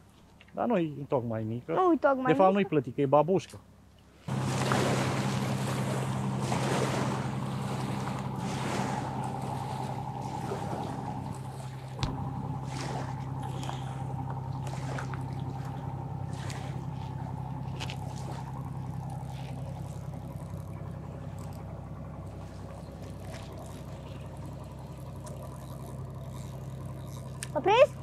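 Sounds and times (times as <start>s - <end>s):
boat engine droning: 4.0s - 28.0s.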